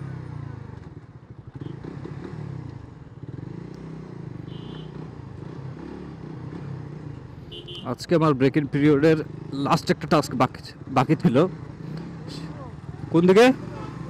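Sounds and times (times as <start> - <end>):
motorcycle engine revving: 0.0 - 7.8, 9.0 - 14.0.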